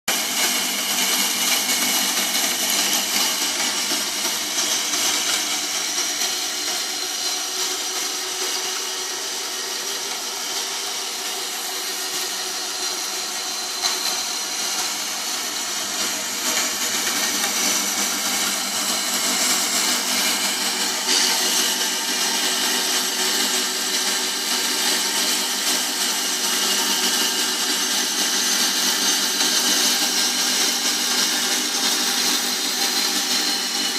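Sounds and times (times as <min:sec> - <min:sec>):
band saw cutting metal: 0:00.1 - 0:33.9.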